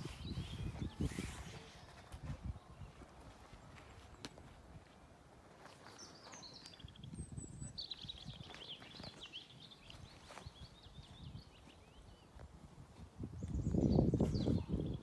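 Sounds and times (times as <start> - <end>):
songbird singing: 0.0 - 12.6, 13.2 - 15.0.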